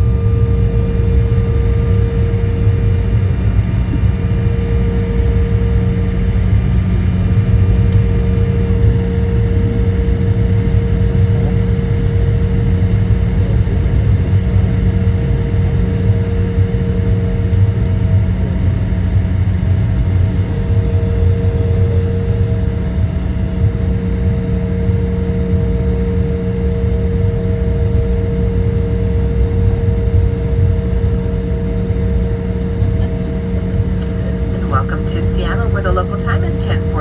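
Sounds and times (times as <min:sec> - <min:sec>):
jet engine cabin rumble: 0:00.0 - 0:37.0
steady engine whine: 0:00.0 - 0:37.0.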